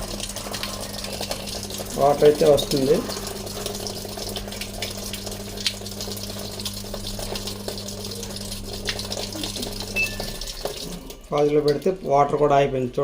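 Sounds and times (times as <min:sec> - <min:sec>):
steady low hum: 0:00.0 - 0:13.0
water filling washing machine tub: 0:00.0 - 0:13.0.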